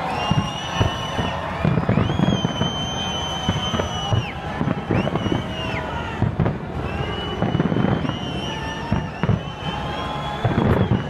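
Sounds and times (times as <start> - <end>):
fireworks booming: 0.0 - 11.0
fireworks whistling: 0.0 - 11.0.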